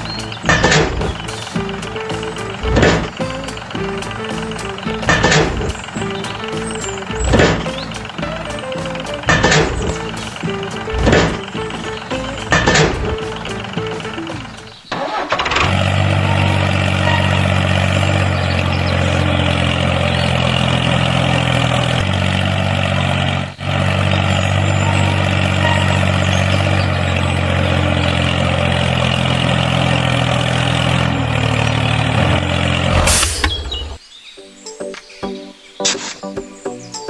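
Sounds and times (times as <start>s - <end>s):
tractor engine idling: 0.0s - 34.0s.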